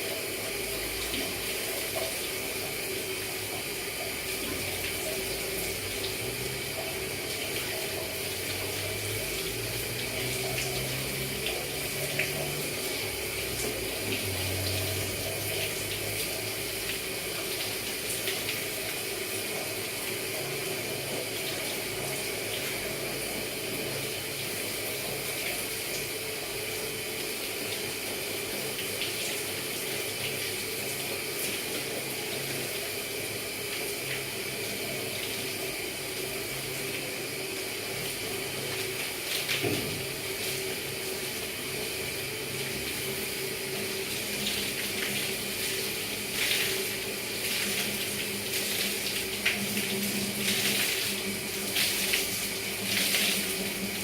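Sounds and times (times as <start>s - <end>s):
shower water spraying: 0.0s - 54.0s.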